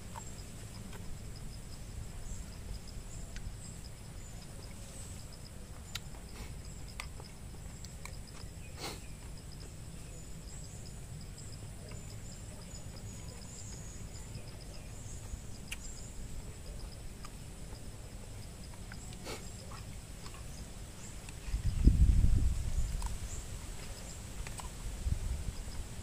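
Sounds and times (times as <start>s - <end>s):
insects buzzing: 0.0s - 26.0s
insects chirping: 0.0s - 26.0s.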